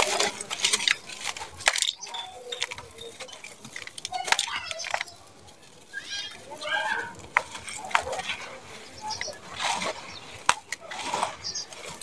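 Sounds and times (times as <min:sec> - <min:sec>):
cement chunk crunching in hands: 0:00.0 - 0:12.0
faint voices: 0:00.0 - 0:12.0.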